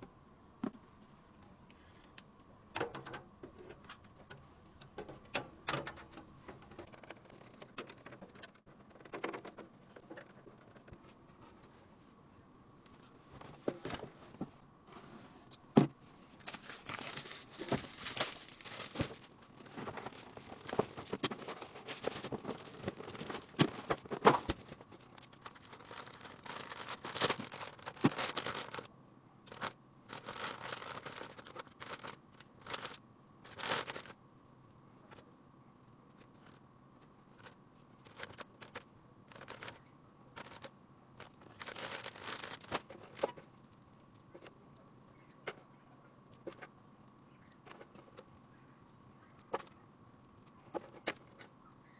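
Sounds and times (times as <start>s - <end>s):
faint steady hum: 0.0s - 51.9s
rustling and crinkling: 5.8s - 51.9s.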